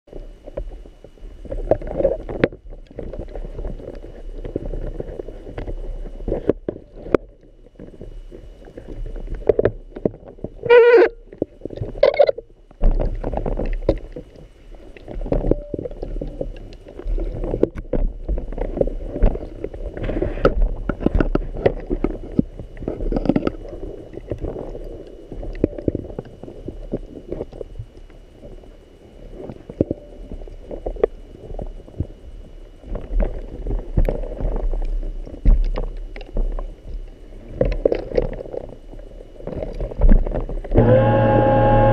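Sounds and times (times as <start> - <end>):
muffled underwater rumbling: 0.1 - 41.9.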